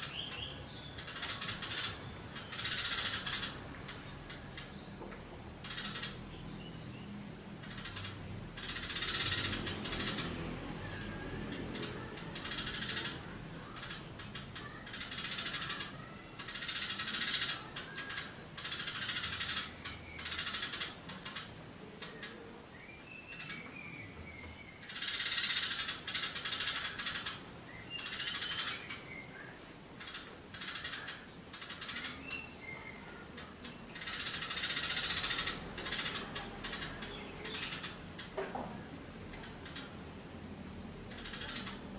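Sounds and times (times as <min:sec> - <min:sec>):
sparrow chirping rapidly: 0:00.0 - 0:05.0, 0:05.6 - 0:38.4, 0:41.1 - 0:41.9.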